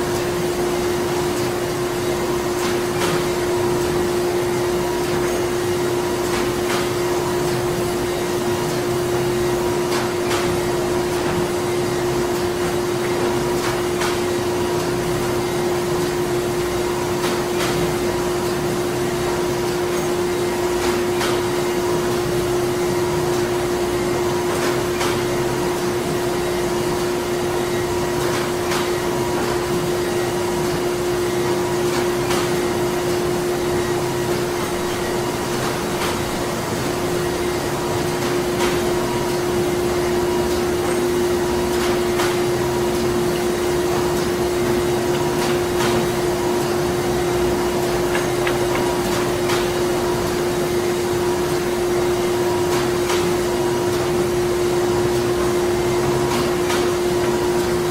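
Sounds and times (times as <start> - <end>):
printing machinery humming: 0.0 - 57.9.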